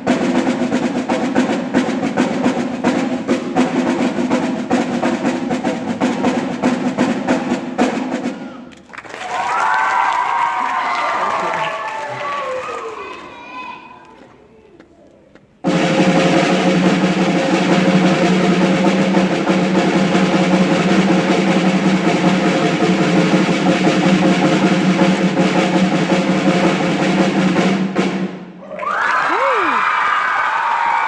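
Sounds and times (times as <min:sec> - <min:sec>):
fast drum roll: 0:00.0 - 0:12.2, 0:15.6 - 0:31.0.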